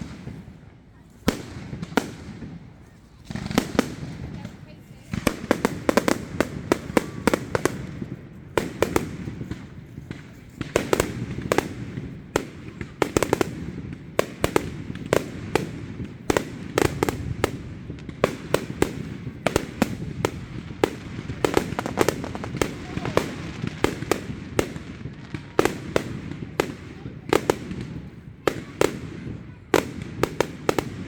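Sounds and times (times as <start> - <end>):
fireworks bangs and cracks: 0.0 - 31.0.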